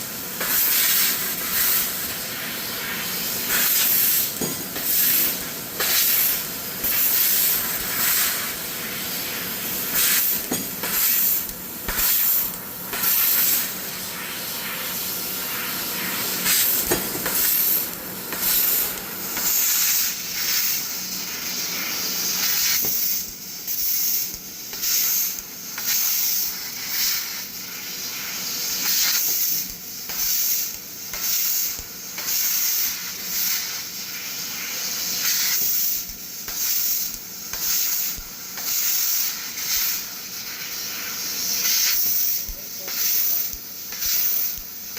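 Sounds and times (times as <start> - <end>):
laser cutter gas hissing: 0.0 - 44.9.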